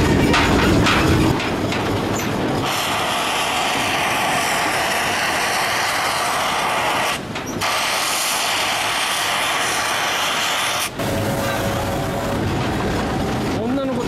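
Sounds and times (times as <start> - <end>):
steam locomotive hissing: 1.0 - 13.6.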